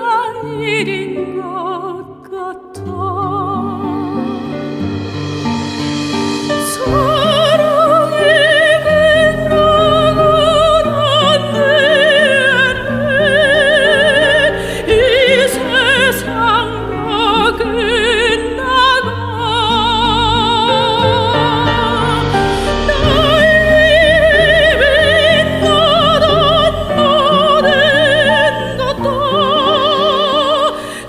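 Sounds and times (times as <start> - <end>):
operatic soprano singing: 0.0 - 5.2, 6.4 - 31.0
instrumental accompaniment: 3.2 - 31.0.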